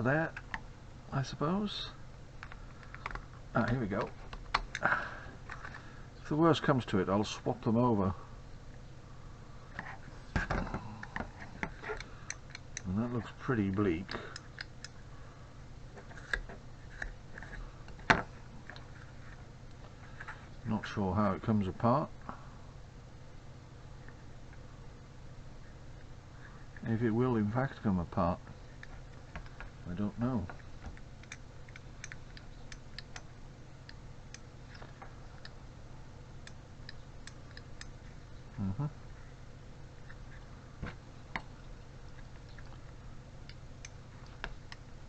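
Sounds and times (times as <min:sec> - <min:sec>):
low background hum: 0:00.0 - 0:45.0.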